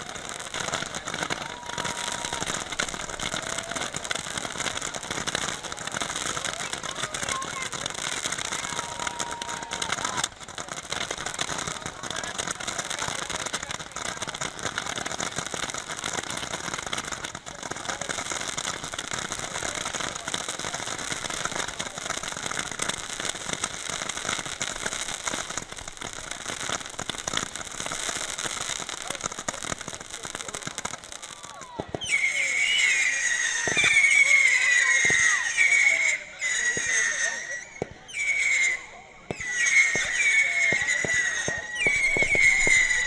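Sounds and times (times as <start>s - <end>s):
crowd chatter: 0.0s - 43.0s
firework whistles: 0.0s - 43.0s
fireworks crackling: 0.0s - 43.0s.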